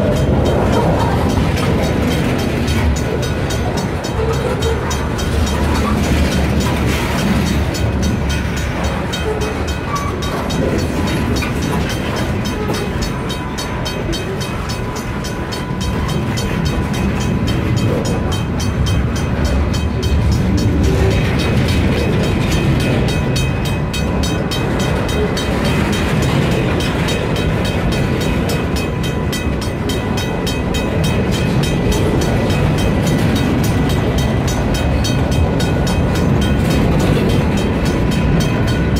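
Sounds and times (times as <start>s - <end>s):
diesel locomotive engine rumble: 0.0s - 38.9s
wheels on rails: 0.0s - 38.9s.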